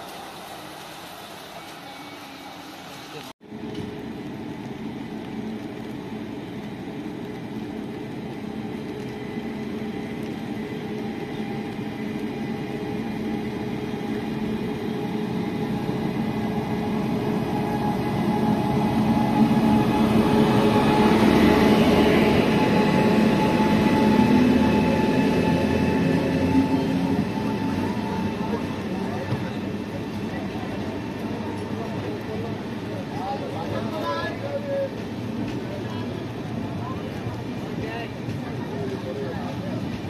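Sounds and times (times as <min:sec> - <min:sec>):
train rumbling: 0:00.0 - 0:40.0.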